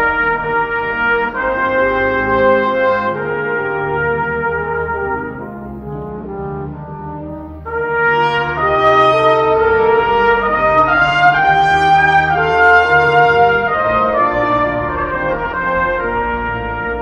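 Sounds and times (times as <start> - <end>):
brass ensemble music: 0.0 - 17.0.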